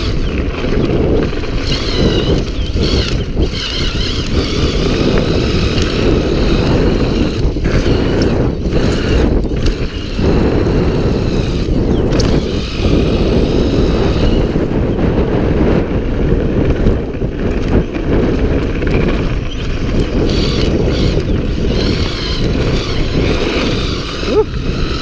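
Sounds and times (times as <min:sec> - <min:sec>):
wind buffeting on microphone: 0:00.0 - 0:25.0.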